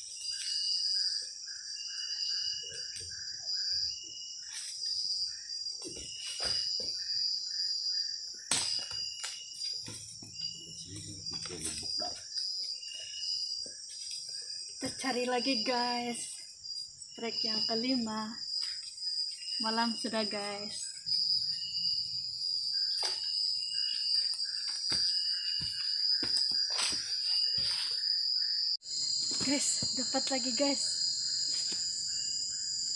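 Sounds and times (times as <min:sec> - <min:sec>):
insect chirps: 0:00.0 - 0:32.9
insects trilling: 0:00.0 - 0:32.9.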